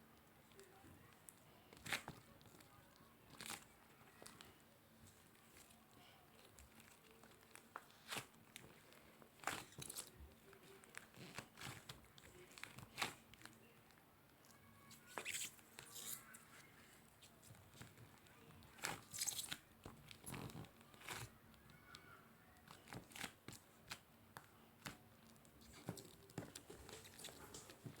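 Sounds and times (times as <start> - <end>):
slime crackling and squishing: 0.3 - 28.0.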